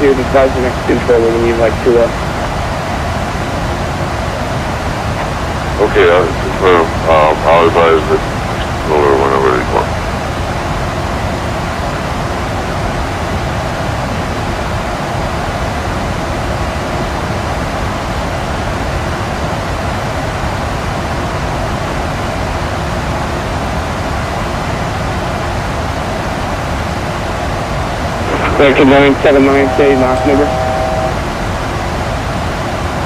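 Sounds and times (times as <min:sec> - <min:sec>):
airplane cabin air and engine noise: 0:00.0 - 0:33.0
faint steady hum: 0:00.0 - 0:33.0.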